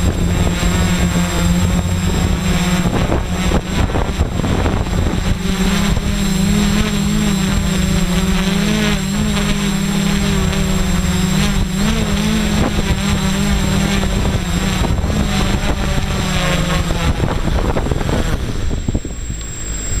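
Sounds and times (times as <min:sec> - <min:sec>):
drone motors humming: 0:00.0 - 0:20.0.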